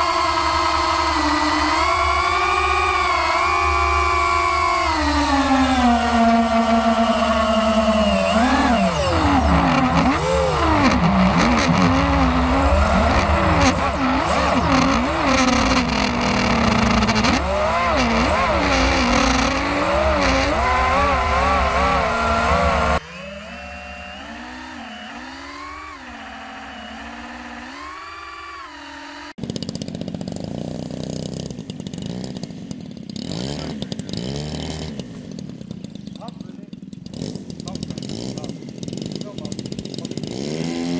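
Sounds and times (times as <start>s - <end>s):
model aircraft engines in flight: 0.0s - 40.9s.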